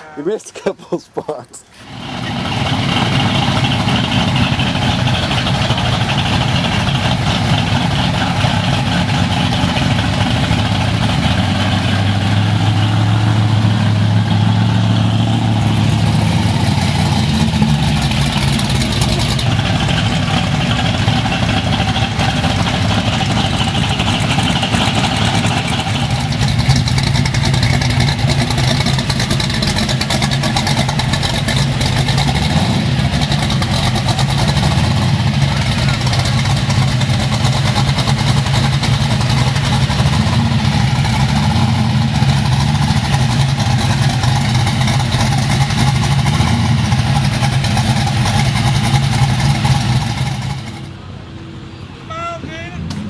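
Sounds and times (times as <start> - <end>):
car engine running: 1.8 - 51.2.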